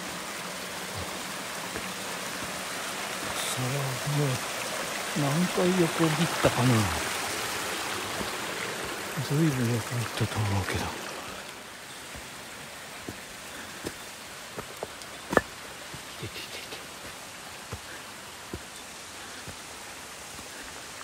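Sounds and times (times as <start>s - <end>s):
mountain stream rushing: 0.0s - 21.0s.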